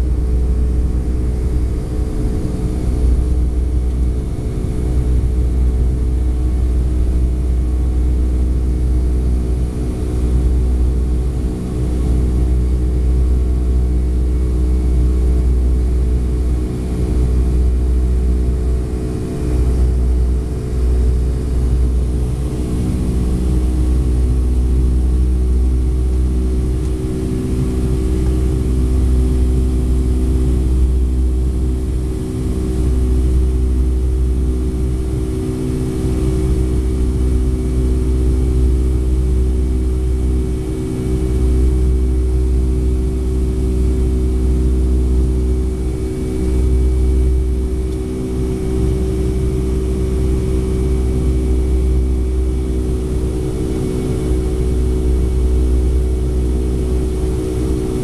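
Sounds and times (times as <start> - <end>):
jet engine rumble in cabin: 0.0 - 58.0
steady hum: 0.0 - 58.0.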